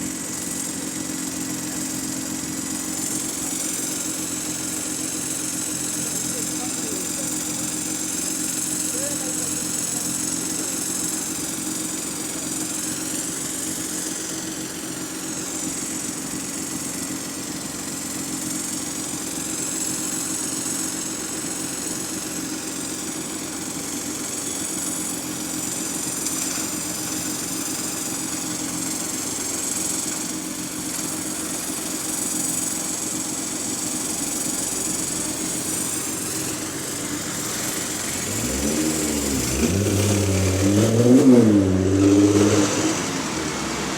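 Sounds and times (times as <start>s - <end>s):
bus engine idling: 0.0s - 41.8s, 42.8s - 43.9s.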